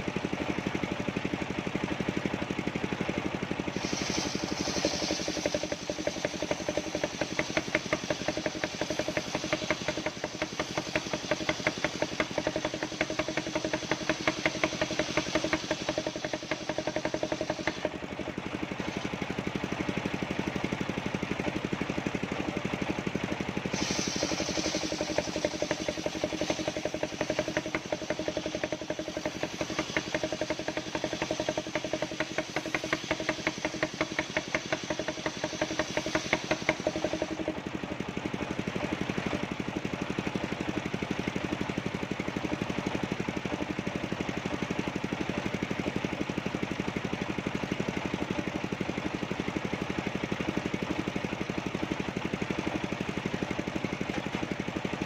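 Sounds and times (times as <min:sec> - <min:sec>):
saw cutting wood with whine: 0:00.0 - 0:44.8
sawmill engine running: 0:00.0 - 0:55.0.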